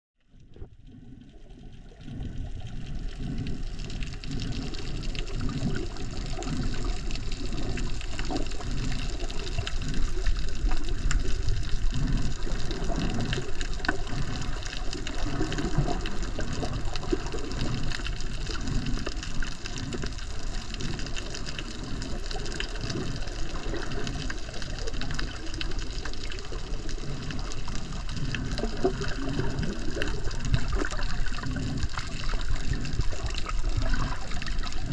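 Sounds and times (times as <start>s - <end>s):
water rushing underwater: 0.2s - 34.9s.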